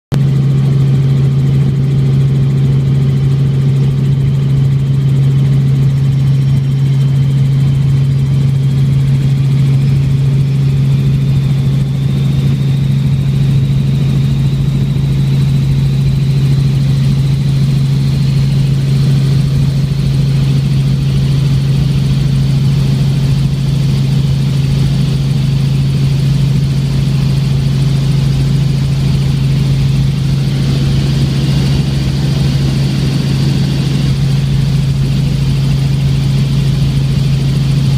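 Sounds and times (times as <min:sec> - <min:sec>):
helicopter engine and rotor drone: 0:00.1 - 0:37.9
high turbine whine: 0:00.3 - 0:37.9.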